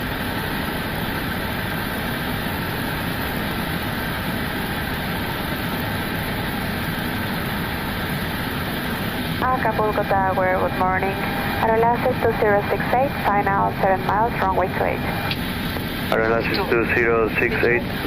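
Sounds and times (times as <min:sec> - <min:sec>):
aircraft engine sound: 0:00.0 - 0:18.0
airflow rush in cockpit: 0:00.0 - 0:18.0.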